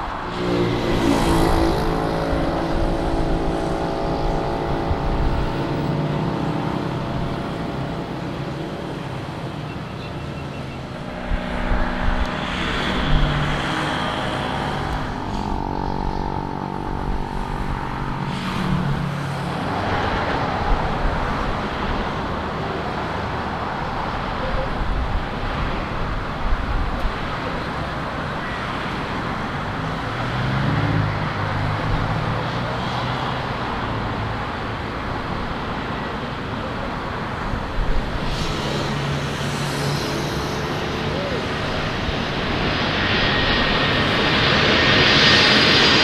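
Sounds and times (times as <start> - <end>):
road traffic with vehicles passing: 0.0 - 46.0.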